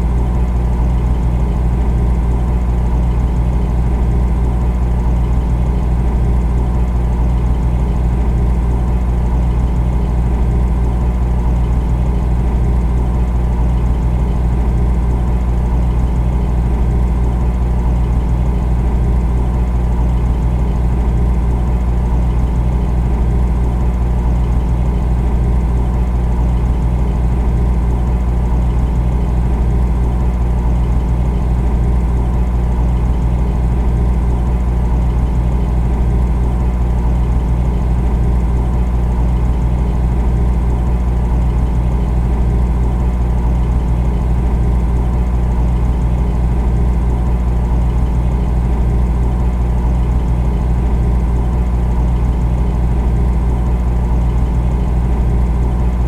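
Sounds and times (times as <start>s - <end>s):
refrigerator compressor hum: 0.0s - 56.0s.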